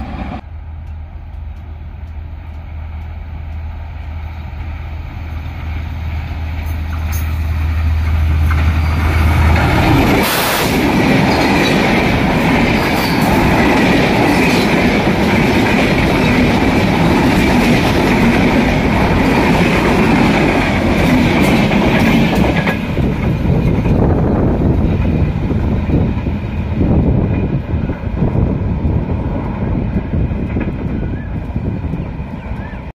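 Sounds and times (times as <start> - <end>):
diesel locomotive droning: 0.0 - 32.9
train wheels rushing on rail: 0.0 - 32.9.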